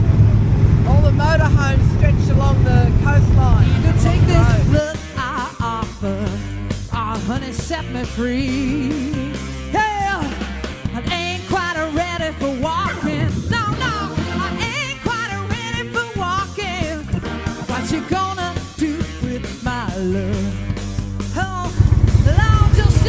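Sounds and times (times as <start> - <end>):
rock music with singer: 0.0 - 23.0.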